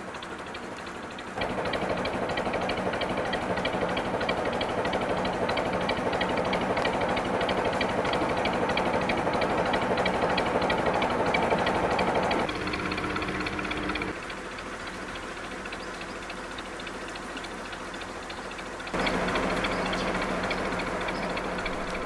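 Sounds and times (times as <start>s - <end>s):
boat diesel engine running: 0.0s - 22.0s.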